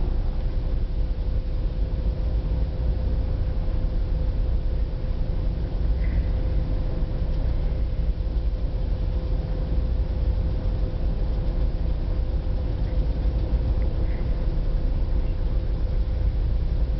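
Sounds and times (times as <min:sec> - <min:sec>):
faint steady hum: 0:00.0 - 0:16.9
ferry engines rumbling: 0:00.0 - 0:16.9.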